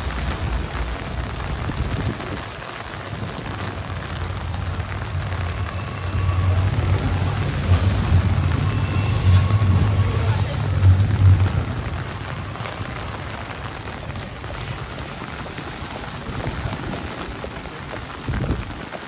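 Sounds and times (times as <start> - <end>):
low rumble: 0.0 - 18.7
heavy rain falling: 0.0 - 19.0.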